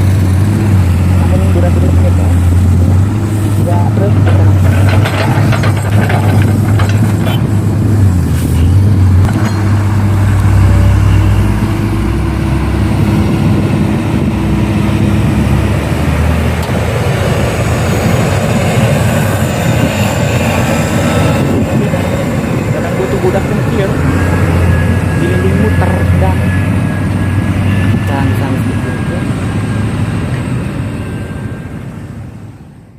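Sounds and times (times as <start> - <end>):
heavy diesel engine rumbling: 0.0 - 32.9.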